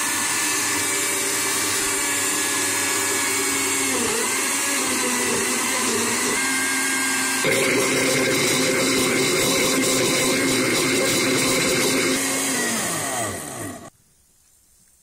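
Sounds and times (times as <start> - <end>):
blender motor running: 0.0 - 13.9.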